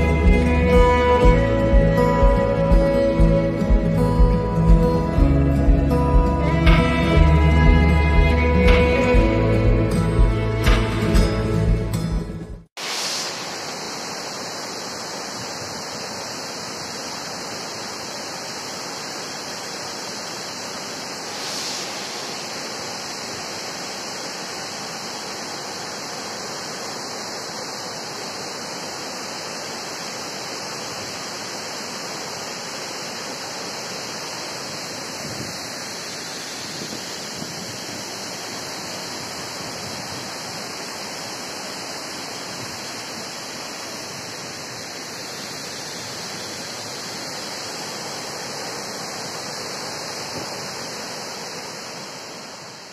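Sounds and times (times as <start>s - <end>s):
waterfall rushing: 0.0s - 12.2s, 12.8s - 52.9s.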